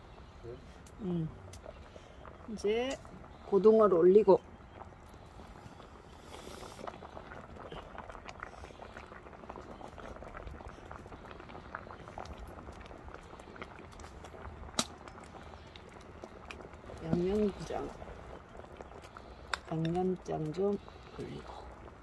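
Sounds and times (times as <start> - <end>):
broth boiling and bubbling: 0.0 - 22.0.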